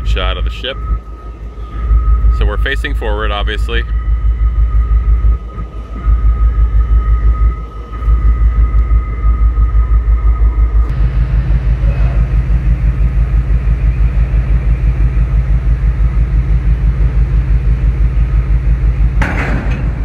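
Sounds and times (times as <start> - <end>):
faint high whine: 0.0 - 19.2
diesel generator throbbing rumble: 0.0 - 20.0.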